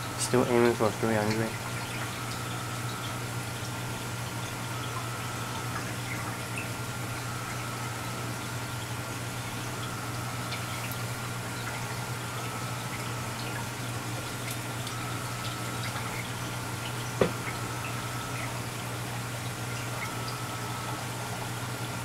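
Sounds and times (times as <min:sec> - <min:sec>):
low steady hum: 0:00.0 - 0:22.0
water trickling: 0:00.0 - 0:22.0.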